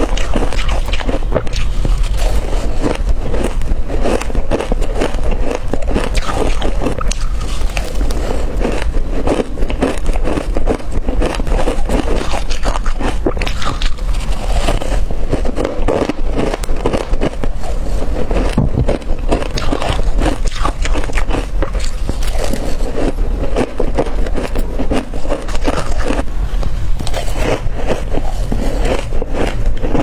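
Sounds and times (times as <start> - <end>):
crushed ice being crunched: 0.0 - 30.0.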